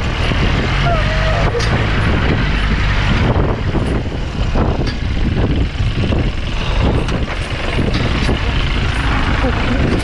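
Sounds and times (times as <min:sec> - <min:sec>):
suv engine rumble: 0:00.0 - 0:10.0.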